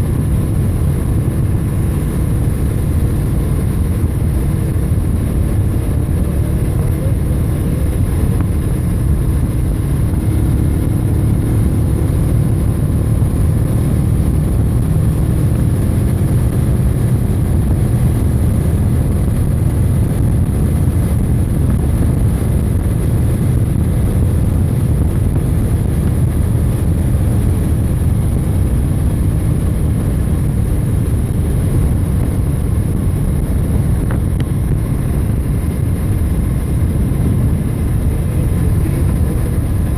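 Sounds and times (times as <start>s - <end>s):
motorbike engine rumble: 0.0s - 39.9s
wind rush: 0.0s - 39.9s.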